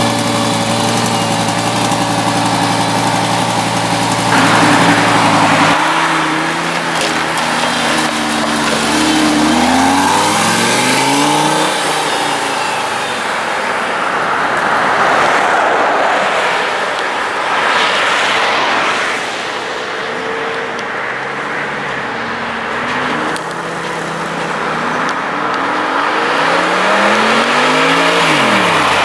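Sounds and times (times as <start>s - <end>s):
sports car engine revving: 0.0s - 18.4s, 22.5s - 29.0s.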